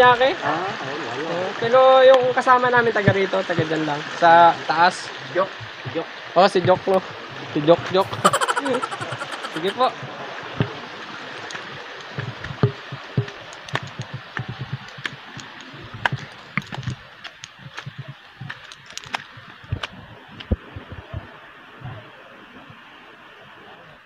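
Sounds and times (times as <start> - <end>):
flowing river water: 0.0 - 8.0, 8.6 - 24.0.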